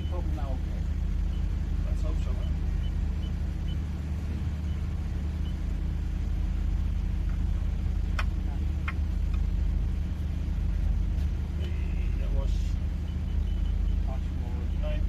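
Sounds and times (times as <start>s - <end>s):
machinery engine drone: 0.0s - 15.0s.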